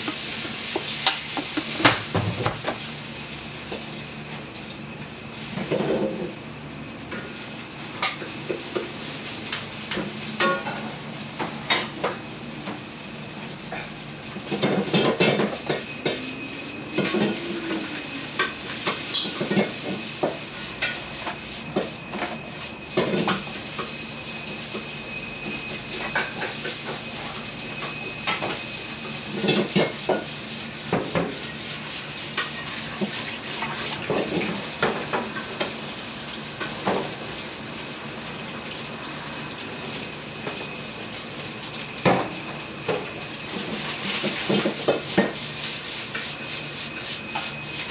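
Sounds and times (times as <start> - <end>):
rice sizzling in pan: 0.0 - 47.9.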